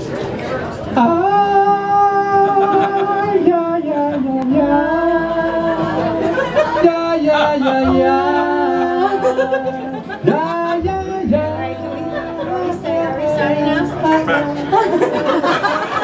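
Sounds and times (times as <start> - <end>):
voices singing in harmony: 1.0 - 16.0.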